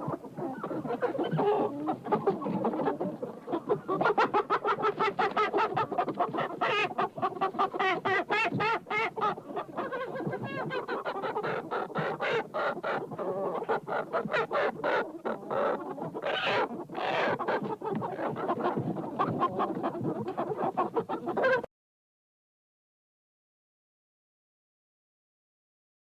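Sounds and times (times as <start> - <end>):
chickens clucking: 0.0 - 21.7.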